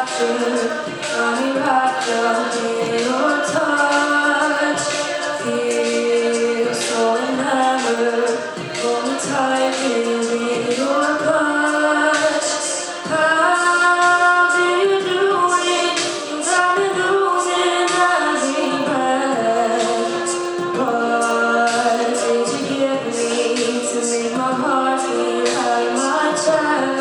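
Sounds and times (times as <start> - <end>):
a cappella group singing: 0.0 - 27.0.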